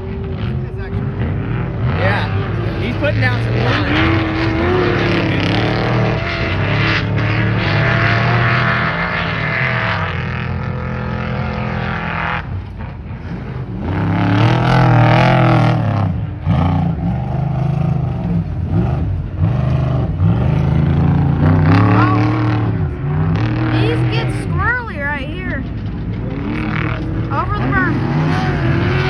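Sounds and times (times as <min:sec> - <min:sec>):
race truck engines revving: 0:00.0 - 0:29.0.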